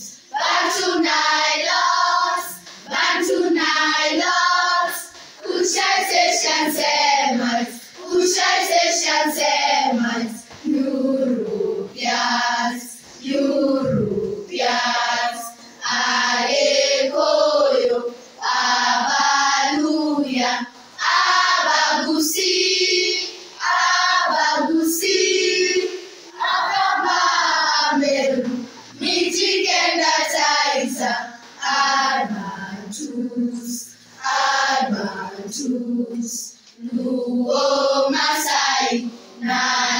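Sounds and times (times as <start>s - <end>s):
group of voices singing: 0.0s - 39.9s.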